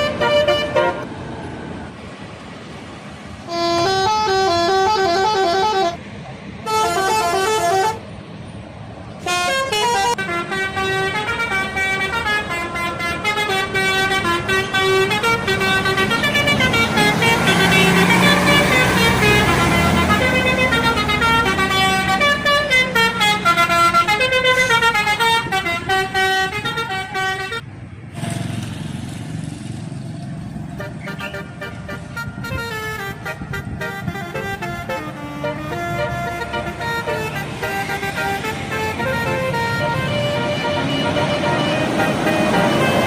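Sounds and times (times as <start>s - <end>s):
multi-note bus horn tune: 0.0s - 1.1s, 3.4s - 6.0s, 6.6s - 8.1s, 9.2s - 27.6s, 30.8s - 43.0s
bus engine: 0.0s - 43.0s.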